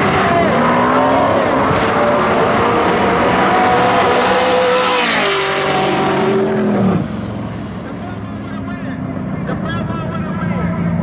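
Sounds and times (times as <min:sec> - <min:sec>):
race cars accelerating at full throttle: 0:00.0 - 0:11.0.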